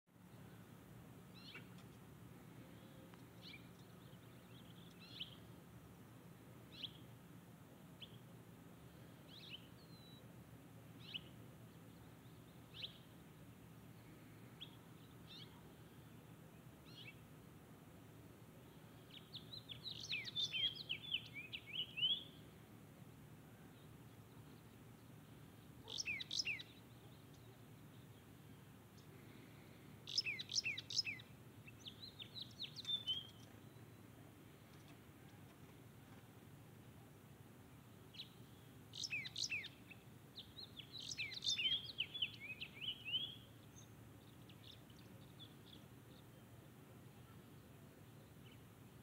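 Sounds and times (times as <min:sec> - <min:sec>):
faint low hum: 0:00.1 - 0:49.0
bird chirping: 0:01.3 - 0:05.6, 0:06.6 - 0:07.2, 0:07.9 - 0:17.4, 0:18.6 - 0:22.6, 0:23.5 - 0:36.2, 0:37.7 - 0:49.0.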